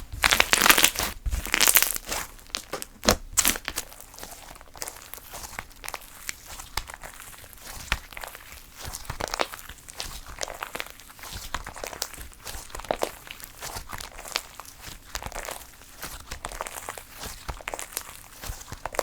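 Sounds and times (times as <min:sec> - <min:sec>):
slime squished by hand: 0:00.0 - 0:19.0.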